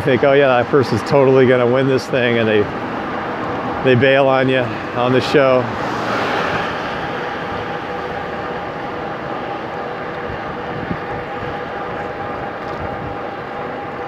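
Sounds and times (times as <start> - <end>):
electric drive whine: 0.0 - 14.0
wind and tyre rush: 0.0 - 14.0.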